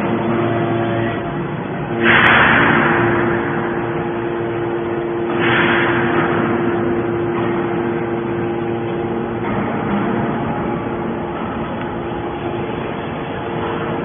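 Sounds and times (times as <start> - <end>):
baler machinery humming: 0.0 - 14.0
rush of noise: 1.0 - 14.0.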